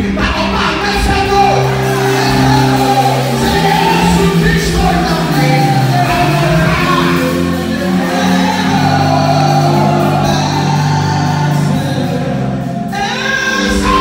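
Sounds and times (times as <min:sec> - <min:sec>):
man singing gospel lead: 0:00.0 - 0:14.0
music: 0:00.0 - 0:14.0
voices singing along: 0:00.1 - 0:14.0.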